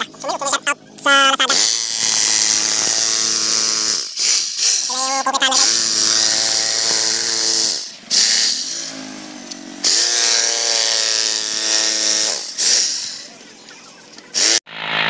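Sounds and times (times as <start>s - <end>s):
electric concrete hammer running: 1.5s - 13.4s, 14.3s - 15.0s.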